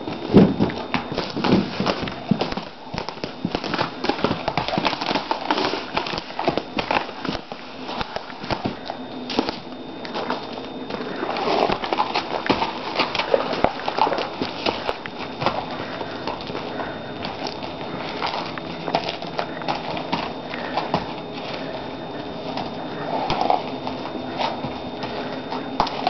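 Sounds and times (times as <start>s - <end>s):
horse moving on grass and gravel: 0.0s - 26.0s.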